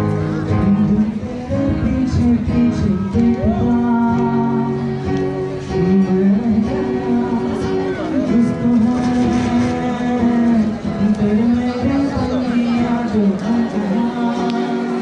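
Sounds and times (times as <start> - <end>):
acoustic guitar strumming: 0.0 - 15.0
man singing: 0.0 - 15.0.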